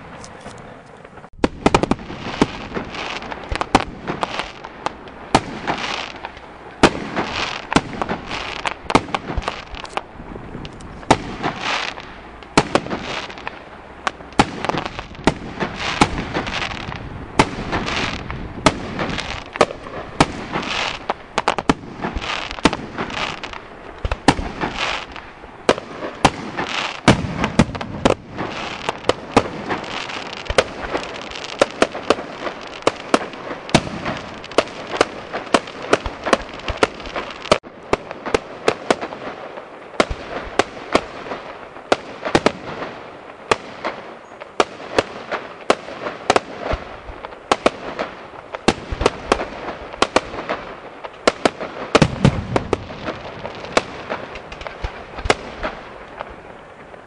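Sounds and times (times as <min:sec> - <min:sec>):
fireworks bursting with sharp bangs: 0:00.0 - 0:57.0
fireworks crackling and hissing: 0:00.0 - 0:57.0.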